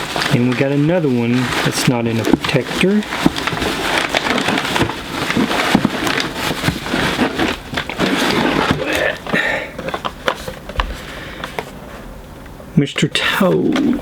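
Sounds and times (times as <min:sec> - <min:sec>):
packing material crinkling: 0:00.0 - 0:11.9.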